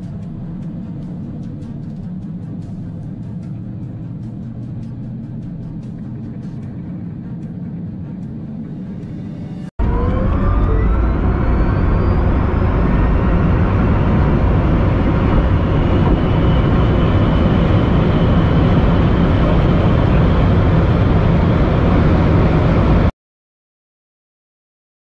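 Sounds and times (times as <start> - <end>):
faint rising whine: 0.0 - 23.1
road and wind noise in car cabin: 0.0 - 23.1.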